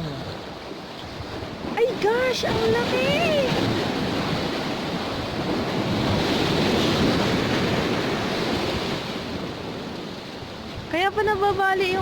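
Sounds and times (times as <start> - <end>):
surf washing on shore: 0.0 - 12.0
wind buffeting microphone: 0.3 - 12.0.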